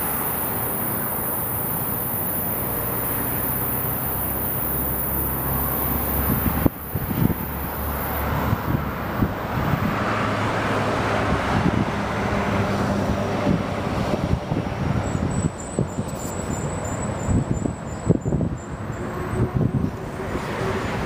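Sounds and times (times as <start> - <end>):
passenger train running past: 0.0 - 21.0
wind buffeting microphone: 3.5 - 21.0.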